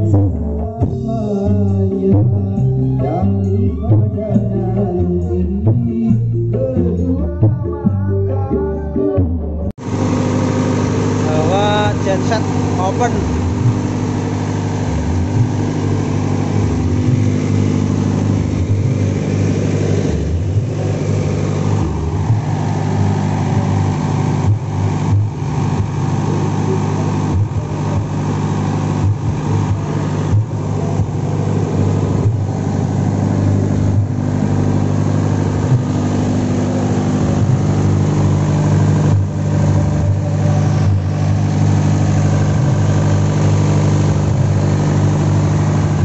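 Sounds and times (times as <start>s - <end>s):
generator engine droning: 0.0s - 46.0s.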